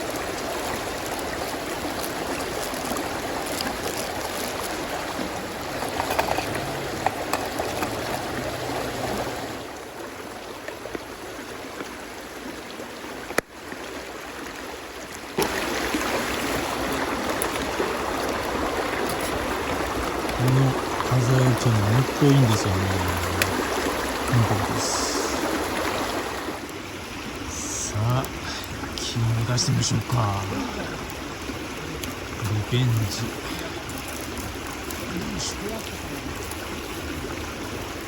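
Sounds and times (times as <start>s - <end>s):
flowing stream rushing: 0.0s - 38.0s.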